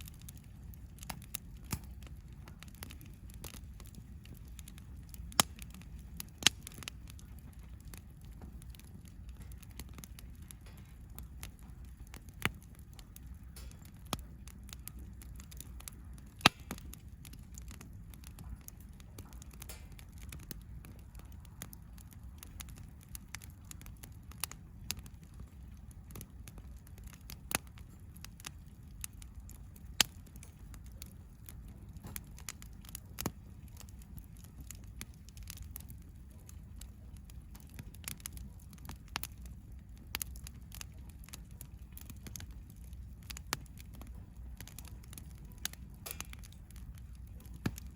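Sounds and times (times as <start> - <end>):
campfire burning: 0.0 - 47.9
fire crackling pops: 0.0 - 47.9.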